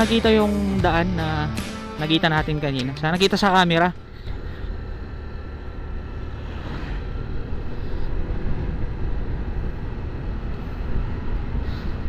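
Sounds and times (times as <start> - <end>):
low rumble of riding noise: 0.0 - 12.0
motor scooter engine running: 2.2 - 12.0.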